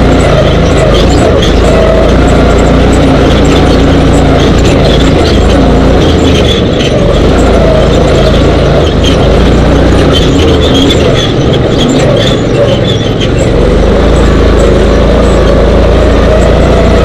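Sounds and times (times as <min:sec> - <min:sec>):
dune buggy engine running hard: 0:00.0 - 0:17.0.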